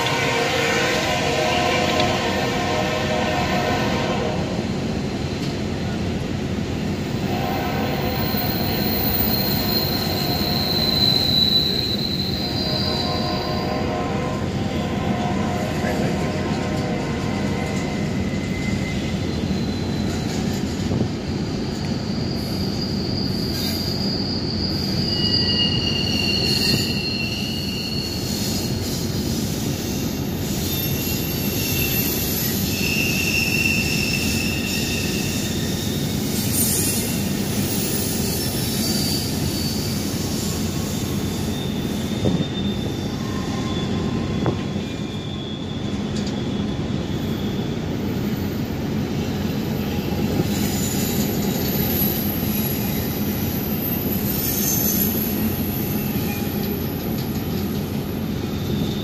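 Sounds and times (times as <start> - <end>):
train wheels rumbling on rail: 0.0 - 59.0
high wheel squeals: 7.2 - 16.4, 17.2 - 21.0, 21.6 - 59.0.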